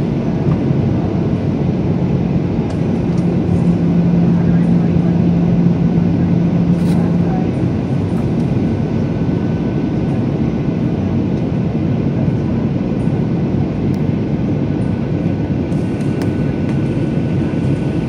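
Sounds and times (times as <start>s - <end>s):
aircraft cabin engine rumble: 0.0s - 18.0s
faint steady whine: 0.0s - 18.0s.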